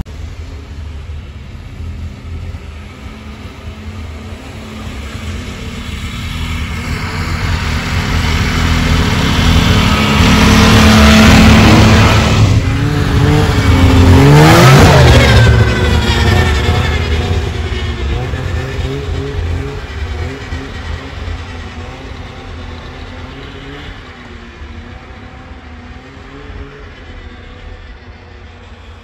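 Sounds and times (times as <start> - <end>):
snowmobile engine passing by: 0.0 - 29.0.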